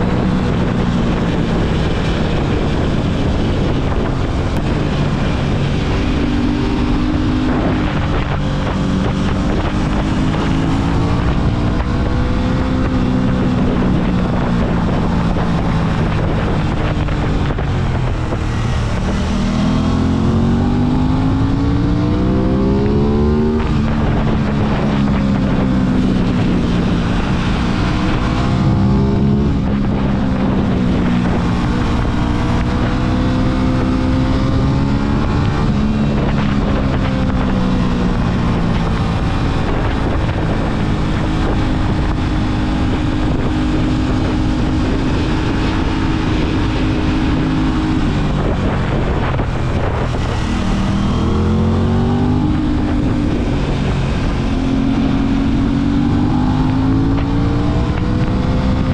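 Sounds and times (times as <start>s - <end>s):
motorcycle engine accelerating: 0.0s - 58.9s
wind rush on microphone: 0.0s - 58.9s.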